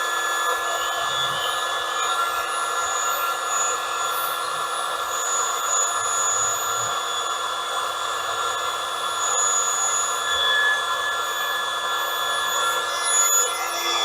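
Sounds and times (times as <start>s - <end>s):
electric air pump whining: 0.0s - 14.0s.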